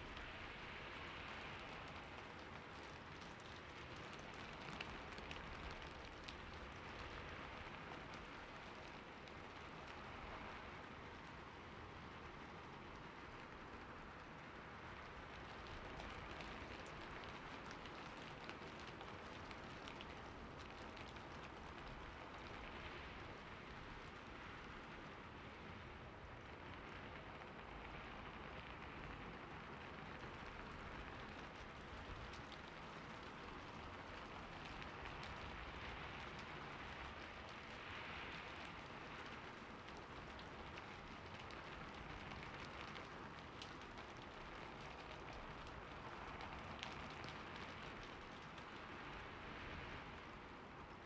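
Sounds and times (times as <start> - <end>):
rain falling on a roof: 0.0 - 51.0.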